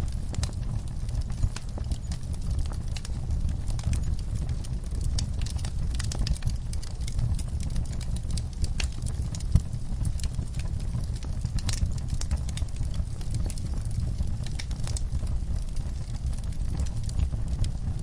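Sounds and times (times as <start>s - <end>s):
low steady rumble: 0.0s - 18.0s
wood fire crackling and popping: 0.0s - 18.0s.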